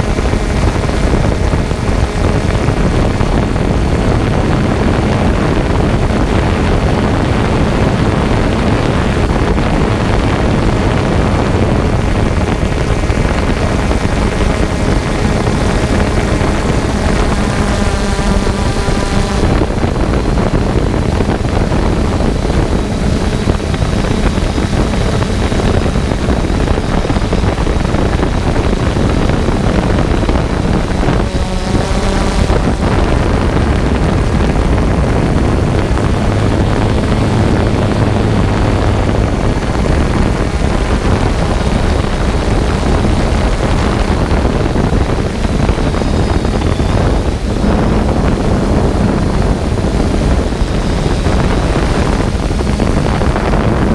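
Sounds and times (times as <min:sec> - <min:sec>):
drone motors and propellers: 0:00.0 - 0:53.9
wind on microphone: 0:00.0 - 0:53.9.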